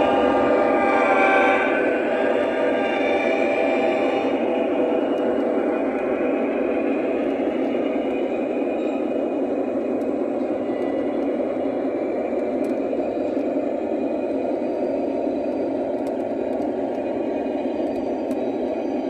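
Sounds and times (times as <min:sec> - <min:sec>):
model train rumbling on track: 0:00.0 - 0:19.0.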